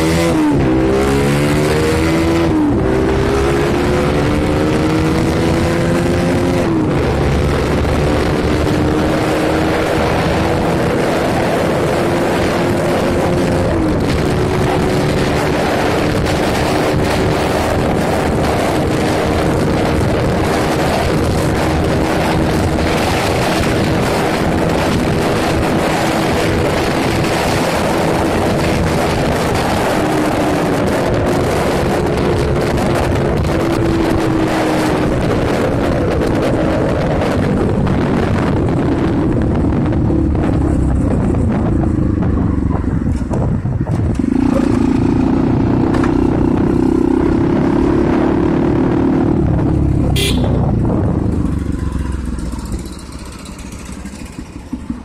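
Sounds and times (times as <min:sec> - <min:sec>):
loud rushing noise: 0:00.0 - 0:55.0
vehicle engine running: 0:00.0 - 0:55.0.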